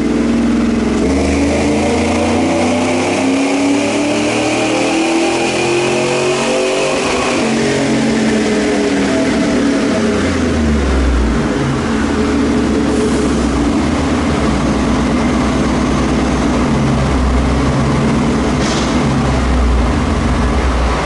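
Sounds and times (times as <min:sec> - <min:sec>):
truck engine deep rumble: 0:00.0 - 0:02.8, 0:06.4 - 0:21.0.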